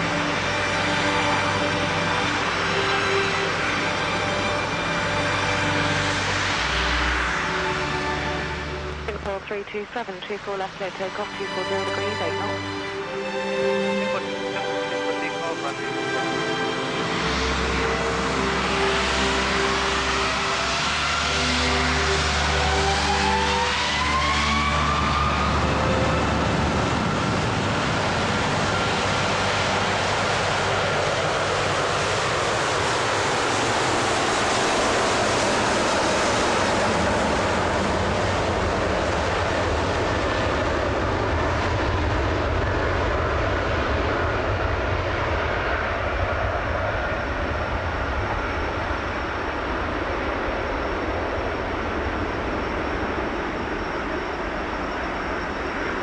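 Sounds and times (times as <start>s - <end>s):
jet airliner engines roaring: 0.0s - 56.0s.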